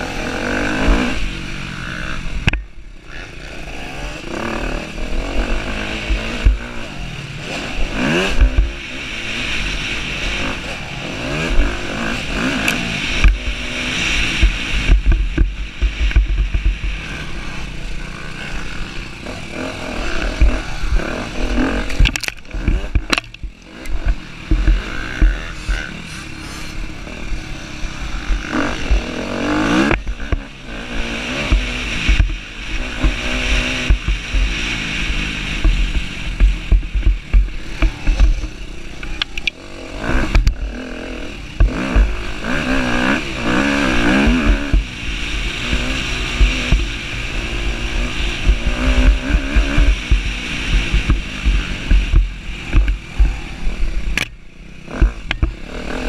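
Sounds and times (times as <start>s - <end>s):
motocross bike engine revving: 0.0s - 56.0s
wind rumbling on microphone: 0.0s - 56.0s.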